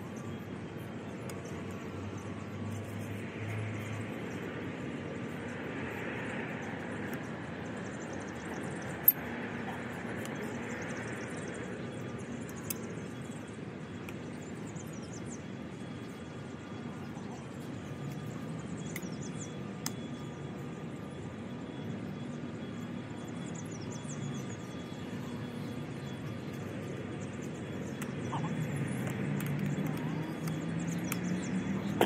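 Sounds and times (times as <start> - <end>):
outdoor background hum: 0.0 - 32.0.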